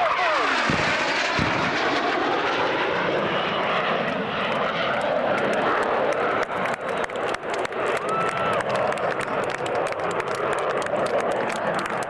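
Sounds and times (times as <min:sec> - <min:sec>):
jet engine rushing roar: 0:00.0 - 0:12.0.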